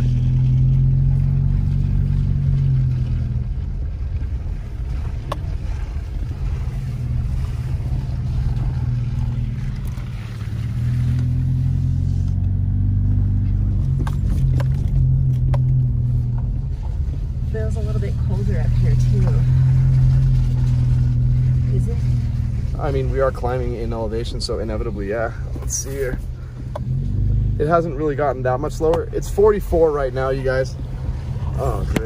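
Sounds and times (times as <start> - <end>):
car engine humming: 0.0 - 32.0.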